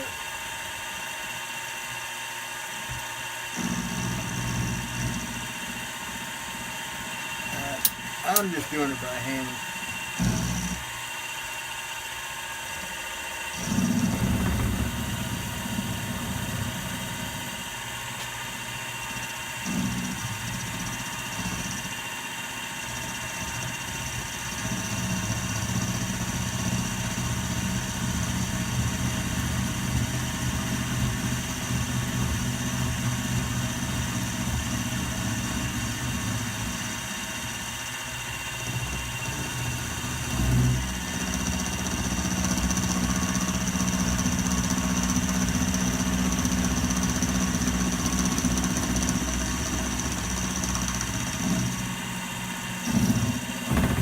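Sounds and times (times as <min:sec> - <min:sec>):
milling machine whine: 0:00.0 - 0:54.0
cutter cutting metal: 0:03.1 - 0:54.0.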